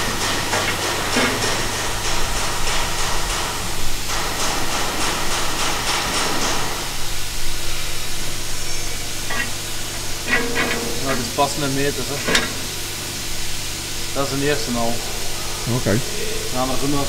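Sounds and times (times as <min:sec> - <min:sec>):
machine hiss and hum: 0:00.0 - 0:17.0.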